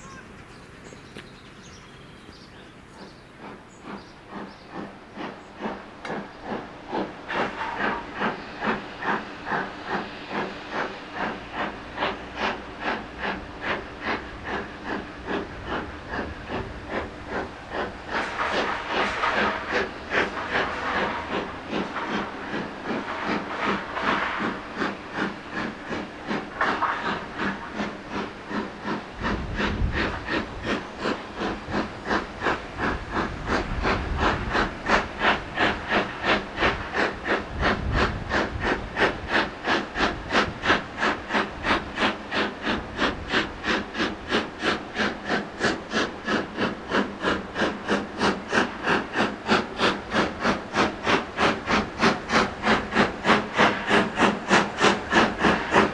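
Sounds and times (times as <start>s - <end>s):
steam hiss: 0.0s - 55.9s
steam locomotive exhaust beats: 0.0s - 55.9s.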